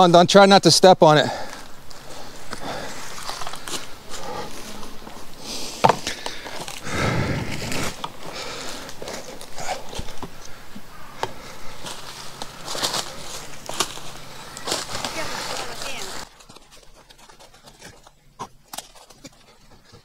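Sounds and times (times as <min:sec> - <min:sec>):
footsteps in dry leaves: 0:02.0 - 0:19.8.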